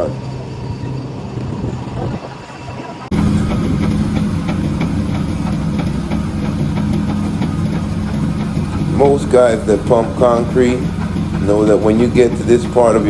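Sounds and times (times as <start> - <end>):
diesel truck engine running: 0.0 - 13.0
quick regular ticking: 0.0 - 13.0.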